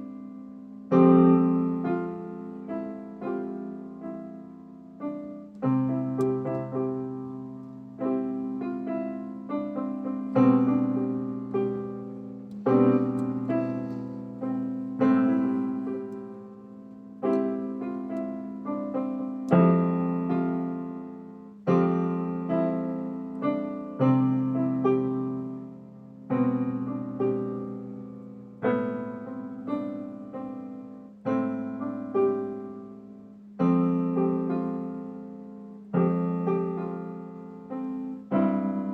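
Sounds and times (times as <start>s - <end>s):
piano power chords: 0.0s - 38.9s.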